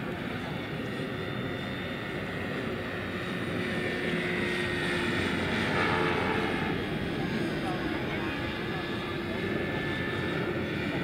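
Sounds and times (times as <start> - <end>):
model helicopter rotor whir: 0.0 - 11.0.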